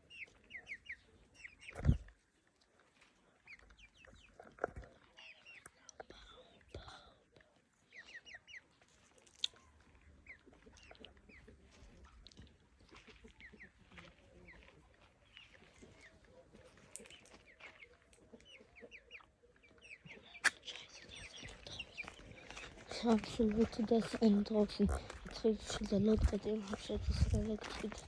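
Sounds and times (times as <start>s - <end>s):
faint bird chirping: 0.0s - 2.4s, 3.2s - 28.0s.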